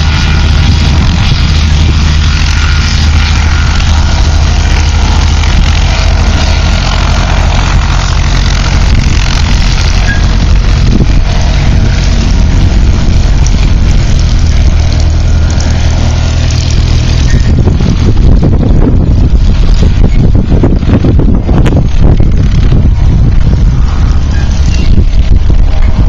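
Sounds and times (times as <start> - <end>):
light aircraft engine droning: 0.0 - 26.0.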